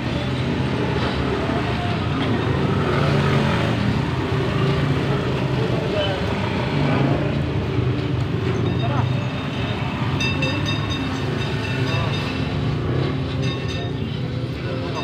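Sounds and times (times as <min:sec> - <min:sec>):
indistinct voices: 0:00.0 - 0:15.0
vehicle engine rumbling: 0:00.0 - 0:15.0.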